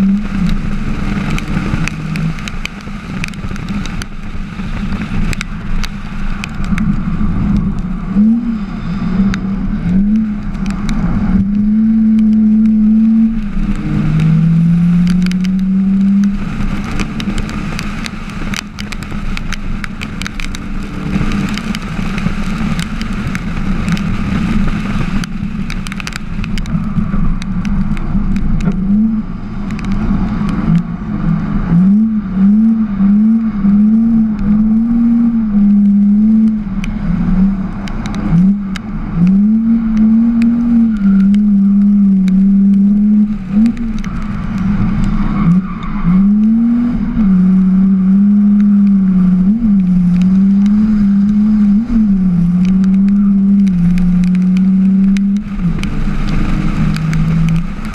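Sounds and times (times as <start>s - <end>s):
noisy rush with crackles: 0.0s - 57.9s.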